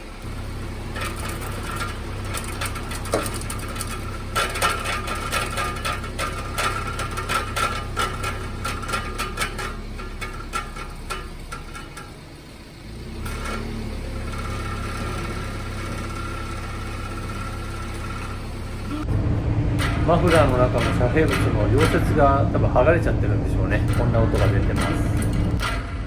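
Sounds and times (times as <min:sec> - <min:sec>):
car engine running: 0:00.0 - 0:26.0
metallic rattling from muffler: 0:00.0 - 0:26.0.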